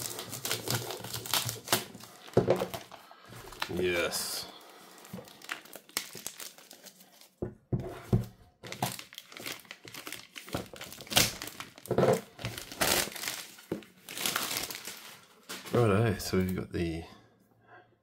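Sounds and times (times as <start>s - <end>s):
plastic wrapping tearing and crinkling: 0.0s - 7.4s, 8.6s - 15.8s.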